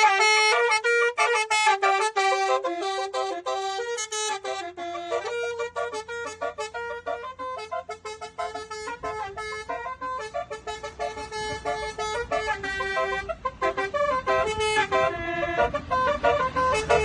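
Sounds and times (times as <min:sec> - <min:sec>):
musical air horn melody: 0:00.0 - 0:17.0.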